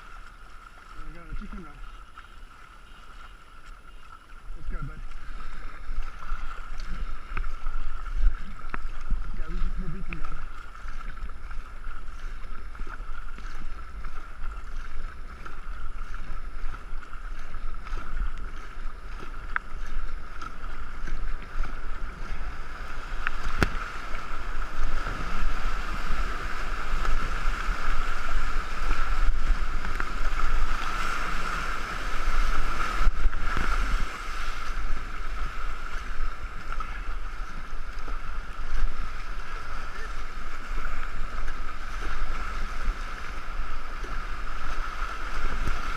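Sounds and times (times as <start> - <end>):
river water rushing and splashing: 0.0 - 45.9
wind buffeting camera: 4.8 - 45.9.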